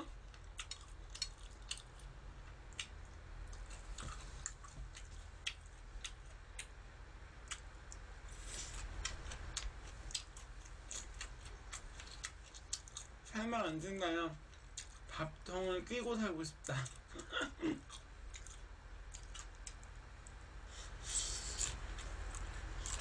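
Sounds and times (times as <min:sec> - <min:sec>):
chewing salad: 0:00.0 - 0:06.8, 0:07.4 - 0:13.4, 0:14.4 - 0:15.2, 0:16.5 - 0:23.0
low steady hum: 0:00.0 - 0:23.0.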